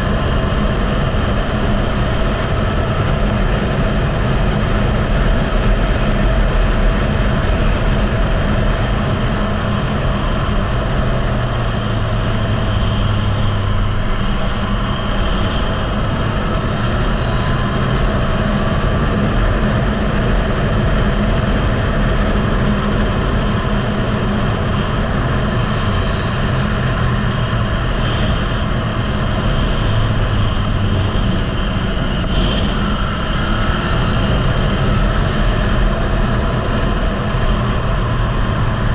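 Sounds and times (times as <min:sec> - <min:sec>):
motorcycle engine running: 0:00.0 - 0:38.9
wind rush over microphone: 0:00.0 - 0:38.9.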